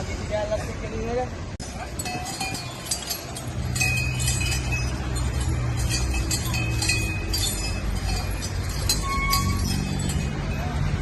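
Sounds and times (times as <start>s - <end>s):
low drone of procession noise: 1.4s - 11.0s
metal bells jingling: 1.6s - 11.0s.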